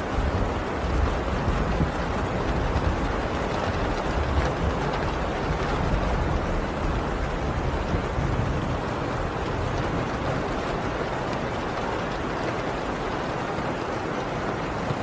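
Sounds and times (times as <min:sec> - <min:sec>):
heavy rain on a tin roof: 0:00.0 - 0:15.0.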